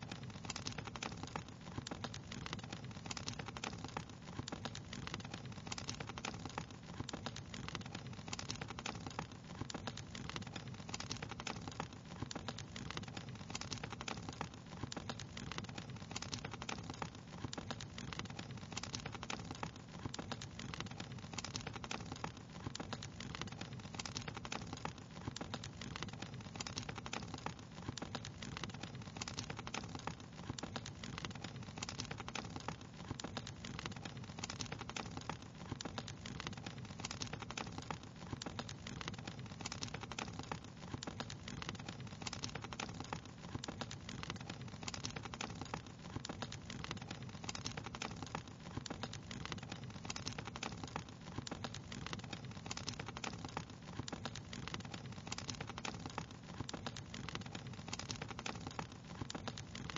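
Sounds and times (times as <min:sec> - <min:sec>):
fire pops and snaps: 0:00.0 - 0:59.9
low fire hiss: 0:00.0 - 0:59.9.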